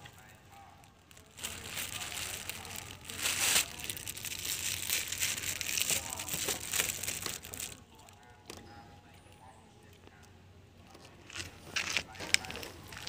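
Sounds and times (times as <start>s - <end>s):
crinkling rustling close to microphone: 0.0s - 8.6s, 10.9s - 13.0s.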